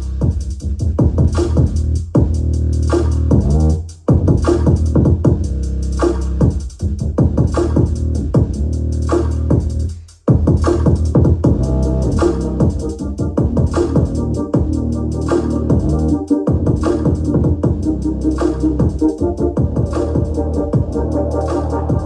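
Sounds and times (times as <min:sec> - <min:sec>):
electronic music with heavy bass: 0:00.0 - 0:22.0.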